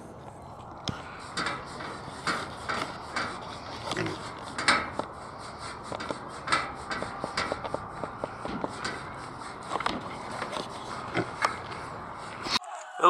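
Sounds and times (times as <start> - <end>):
metal feeder rattling and knocking: 1.1 - 12.4.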